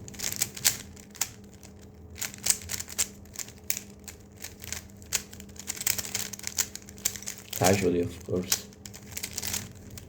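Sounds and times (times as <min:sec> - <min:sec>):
plastic puzzle cube clicking: 0:00.1 - 0:07.8, 0:08.4 - 0:10.0.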